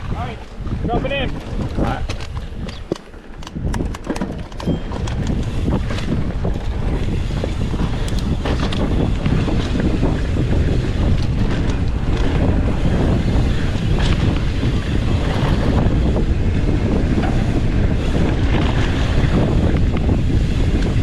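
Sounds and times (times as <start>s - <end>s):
tyres rolling over dirt trail: 0.0s - 21.0s
wind rushing over microphone: 0.0s - 21.0s
bike clattering over bumps: 0.5s - 21.0s.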